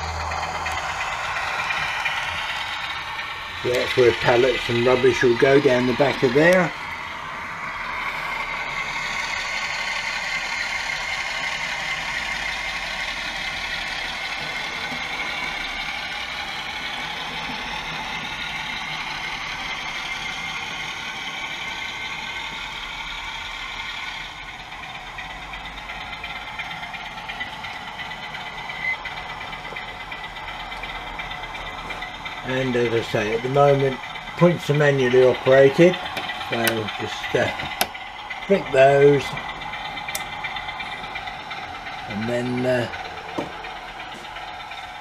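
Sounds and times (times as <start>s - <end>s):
model diesel engine sound: 0.0s - 45.0s.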